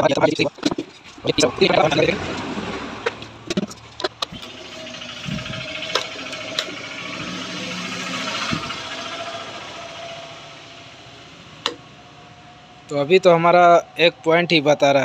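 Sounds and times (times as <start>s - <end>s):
mechanical whirring hum: 0.5s - 15.0s.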